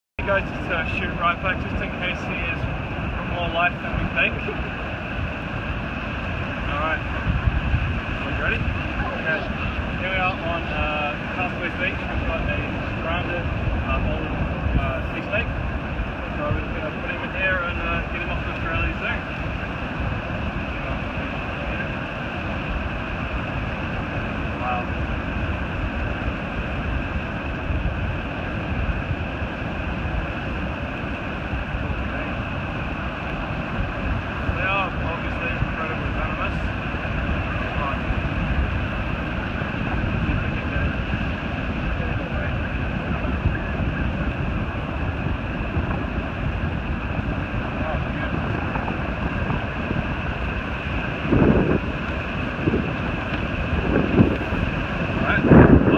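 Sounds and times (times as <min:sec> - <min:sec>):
surf breaking on shore: 0:00.2 - 0:55.9
wind rumbling on microphone: 0:00.2 - 0:55.9.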